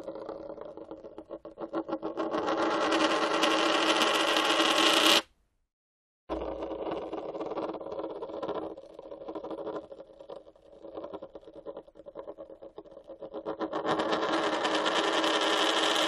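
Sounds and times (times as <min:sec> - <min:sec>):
coin spinning on hard surface: 0:00.0 - 0:05.3, 0:06.3 - 0:16.0.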